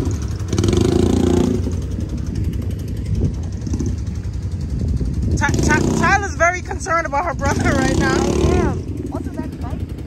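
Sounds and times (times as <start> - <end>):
quad bike engines running: 0.0 - 10.0.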